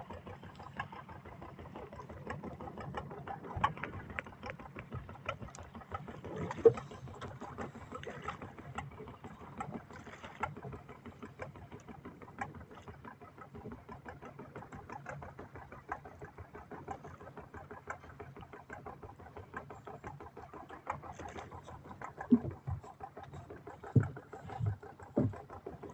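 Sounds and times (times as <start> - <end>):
boat engine chugging: 0.0 - 25.9.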